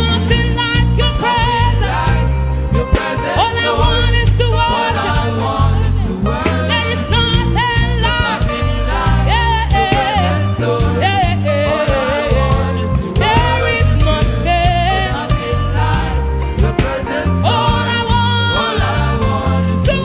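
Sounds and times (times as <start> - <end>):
gospel band with bass: 0.0 - 20.0.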